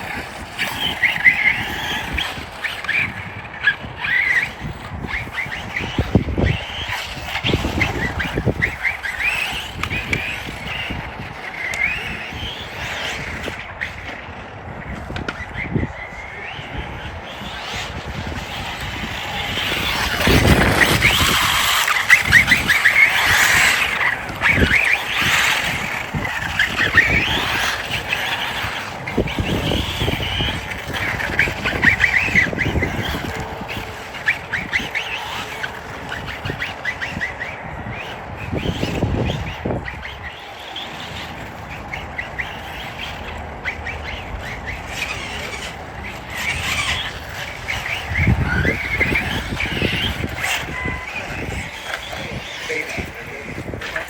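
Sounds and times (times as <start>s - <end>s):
toy truck electric motor whining: 0.0s - 54.0s.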